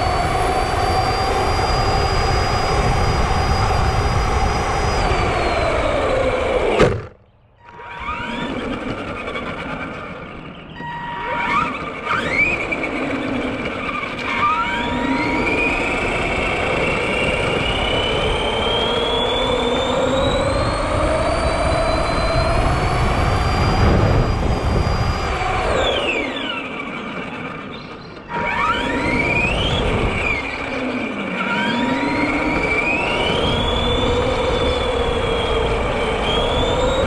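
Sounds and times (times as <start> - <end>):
rc truck electric motor whine: 0.0 - 37.0.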